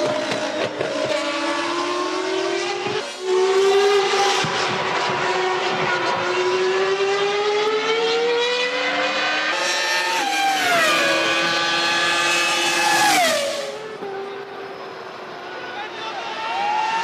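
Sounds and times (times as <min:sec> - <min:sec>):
racing car engine revving: 0:00.0 - 0:16.0.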